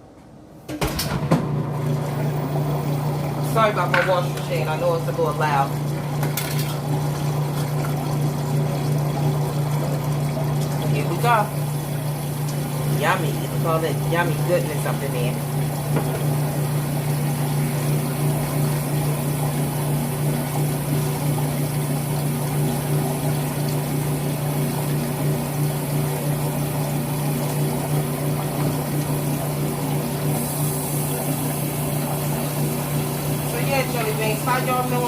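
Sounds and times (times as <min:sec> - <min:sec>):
washing machine humming: 0:00.0 - 0:35.0.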